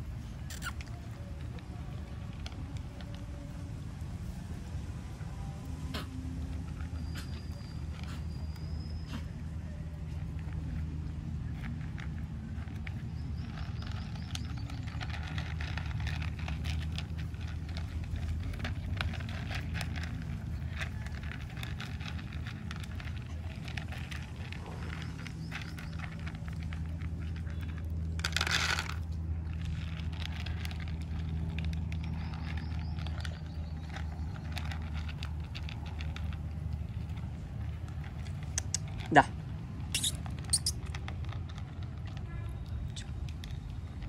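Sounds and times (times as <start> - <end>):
puppies crunching dry kibble: 0.0 - 44.0.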